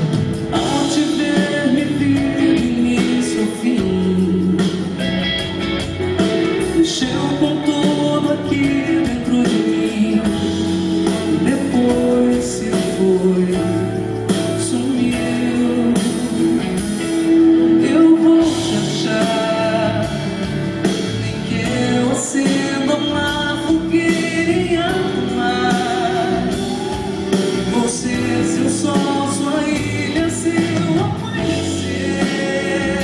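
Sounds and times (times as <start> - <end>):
guitar: 0.0 - 33.0
live band pop music: 0.0 - 33.0.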